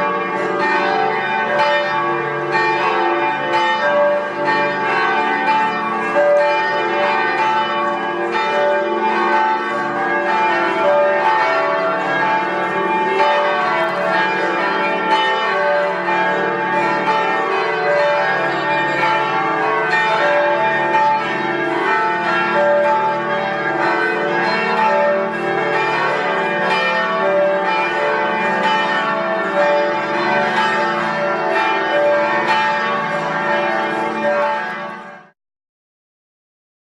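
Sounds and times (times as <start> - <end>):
church bells pealing: 0.0 - 35.4.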